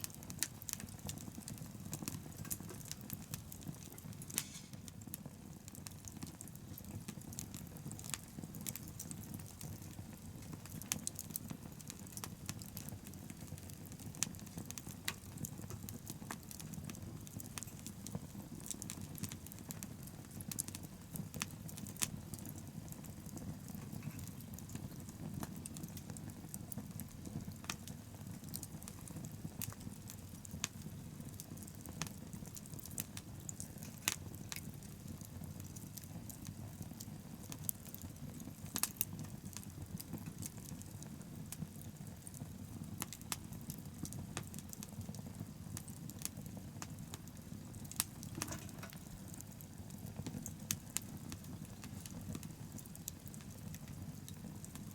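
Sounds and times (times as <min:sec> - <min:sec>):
fire crackling and popping: 0:00.0 - 0:54.9
low rumble of flame: 0:00.0 - 0:54.9.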